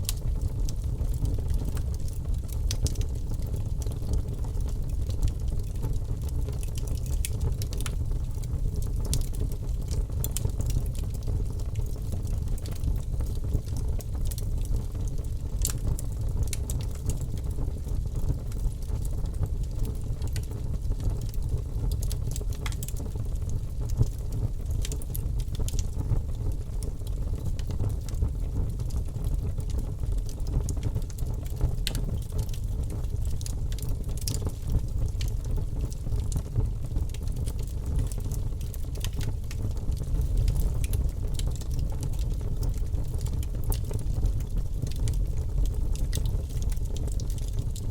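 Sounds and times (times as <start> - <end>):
fire flames rumbling: 0.0 - 47.9
wood crackling and popping: 0.0 - 47.9.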